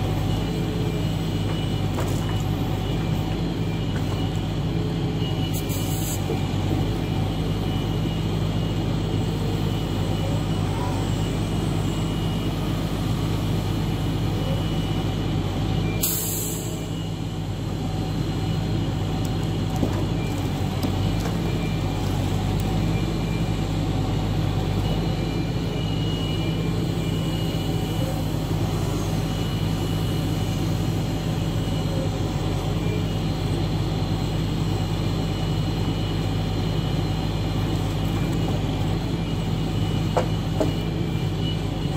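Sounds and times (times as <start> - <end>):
hydraulic loader lifting logs: 0.0 - 41.9
truck engine running: 0.0 - 41.9.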